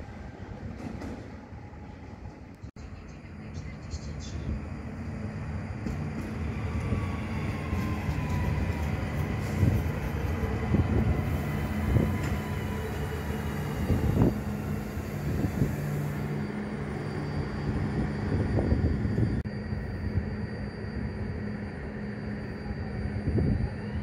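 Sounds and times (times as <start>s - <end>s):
train motor hum and whine: 0.0s - 24.0s.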